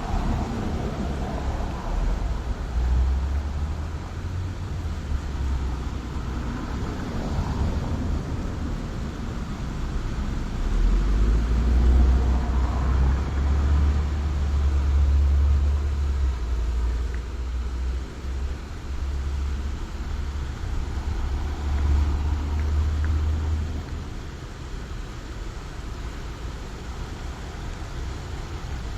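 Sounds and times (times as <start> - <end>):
road traffic rumble: 0.0 - 28.9
steady hiss: 0.0 - 28.9.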